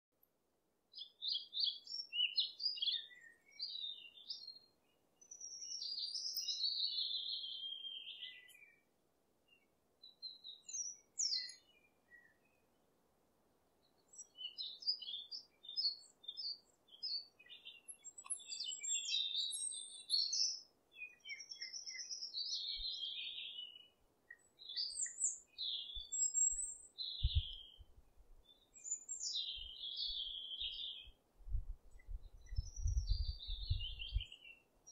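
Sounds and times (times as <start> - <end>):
songbirds singing: 0.9 - 12.8, 13.8 - 34.9.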